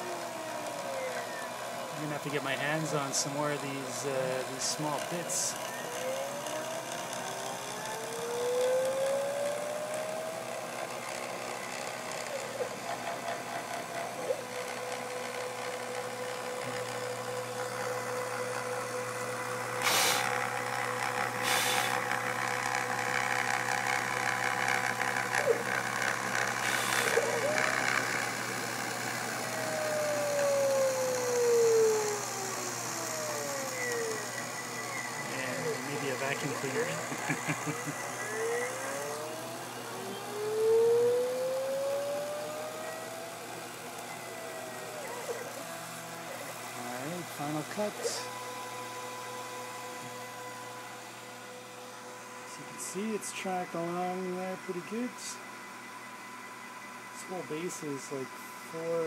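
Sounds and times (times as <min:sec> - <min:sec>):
router spindle running: 0:00.0 - 0:55.4
stepper motors whining: 0:00.0 - 0:59.0.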